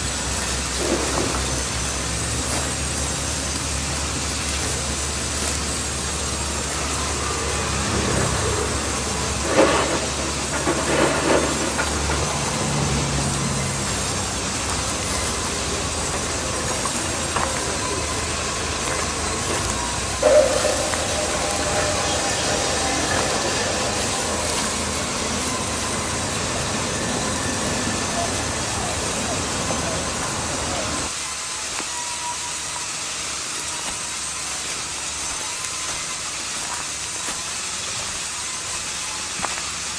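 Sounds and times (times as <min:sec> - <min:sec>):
band saws running: 0:00.0 - 0:39.9.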